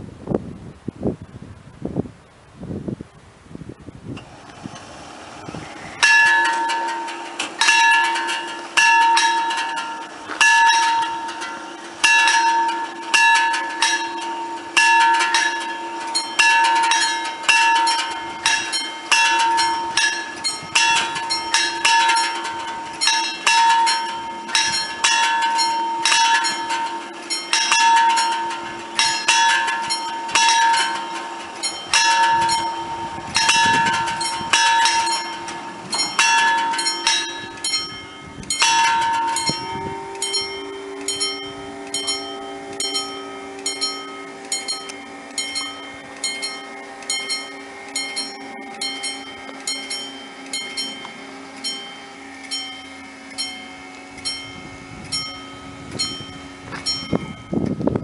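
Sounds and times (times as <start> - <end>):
train rumbling past: 3.0 - 58.0
fainter second bell: 6.0 - 58.0
level crossing bells ringing: 6.0 - 58.0.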